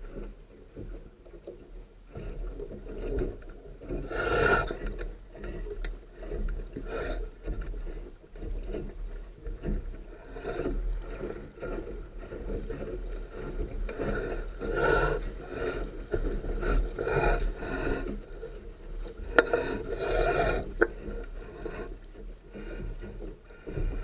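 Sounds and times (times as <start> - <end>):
water splashing along boat hull: 0.0 - 24.0.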